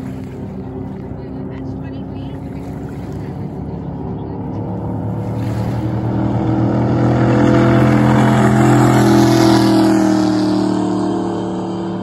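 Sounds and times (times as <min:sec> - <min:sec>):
boat engine passing at speed: 0:00.0 - 0:12.0.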